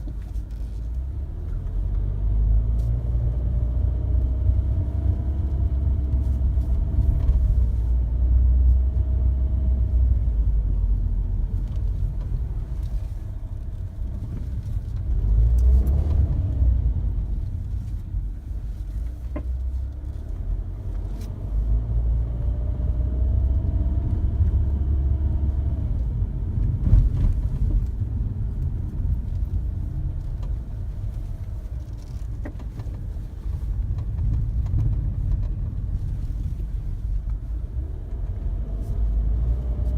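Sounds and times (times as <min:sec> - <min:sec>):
car engine rumble: 0:00.0 - 0:39.9.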